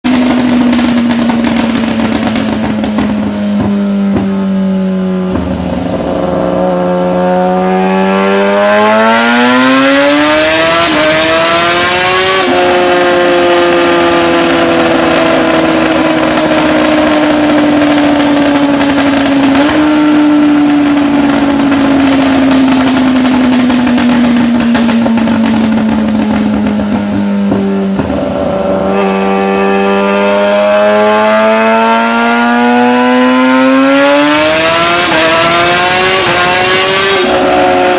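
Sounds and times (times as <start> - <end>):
loud motorcycle engine: 0.0 - 37.9.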